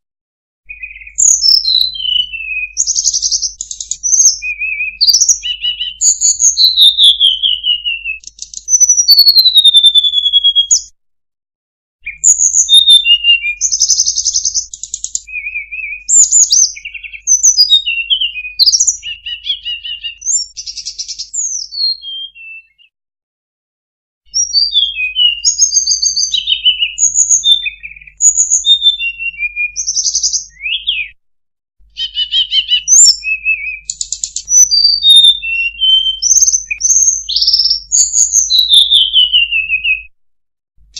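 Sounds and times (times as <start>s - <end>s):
recorded birdsong whistles and trills: 0.7s - 11.0s, 12.0s - 22.9s, 24.3s - 31.2s, 31.8s - 40.2s.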